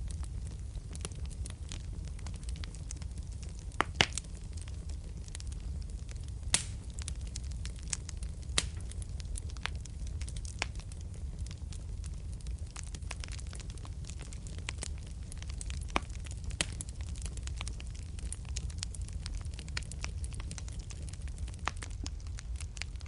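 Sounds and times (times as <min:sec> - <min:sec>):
fire rumbling: 0:00.0 - 0:23.0
wood fire crackling and popping: 0:00.0 - 0:23.0.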